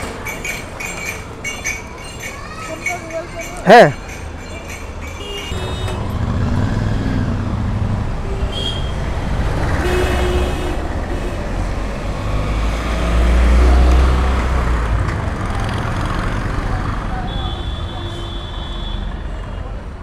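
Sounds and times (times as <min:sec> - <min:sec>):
vehicles passing close by: 0:00.0 - 0:20.0.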